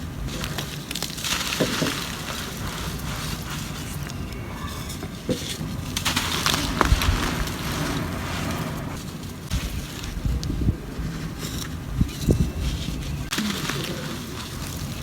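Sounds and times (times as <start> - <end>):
dry mud crumbling: 0.0 - 15.0.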